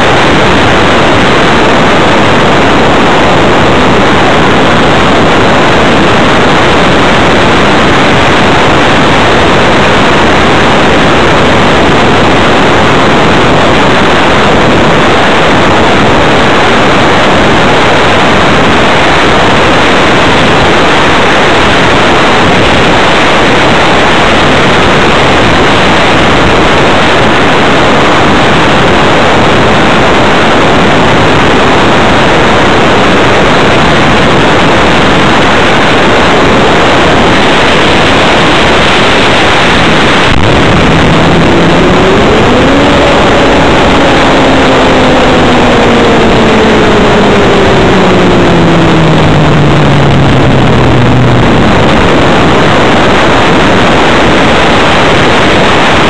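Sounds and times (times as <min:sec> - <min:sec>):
loud rush of airflow: 0:00.0 - 0:56.0.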